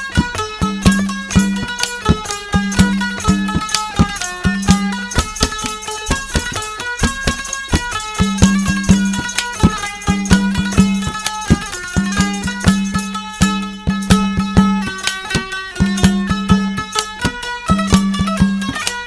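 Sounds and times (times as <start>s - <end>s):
instrumental melody: 0.0s - 19.0s
steady percussive beat: 0.0s - 19.0s.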